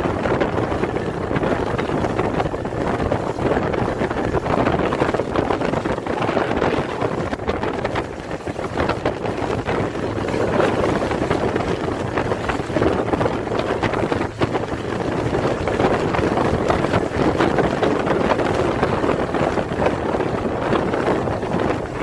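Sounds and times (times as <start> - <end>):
water rushing: 0.0 - 22.0
wind buffeting microphone: 0.0 - 22.0.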